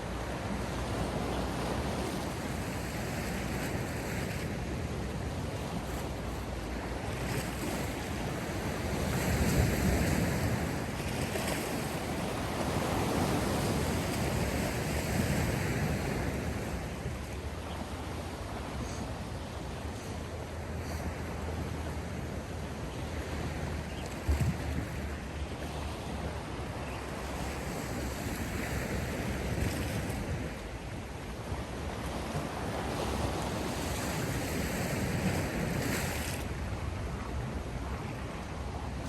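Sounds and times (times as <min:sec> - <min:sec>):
waves breaking on shore: 0:00.0 - 0:39.0.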